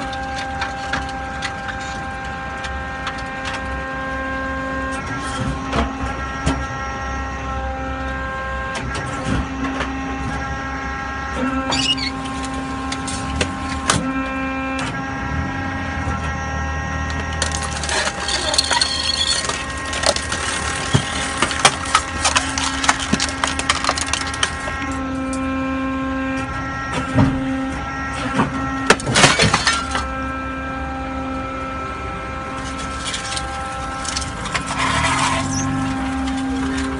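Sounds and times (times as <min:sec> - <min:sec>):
scrap metal crunching: 0:00.0 - 0:10.5, 0:11.2 - 0:36.9
hydraulic pump humming whine: 0:00.0 - 0:36.9.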